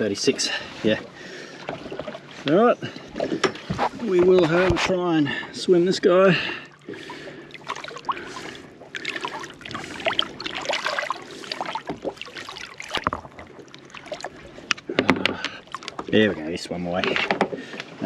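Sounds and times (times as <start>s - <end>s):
water splashing by boat: 0.0s - 18.0s.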